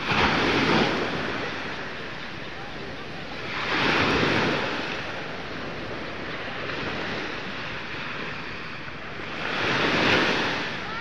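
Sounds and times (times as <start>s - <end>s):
small waves breaking: 0.0s - 11.0s.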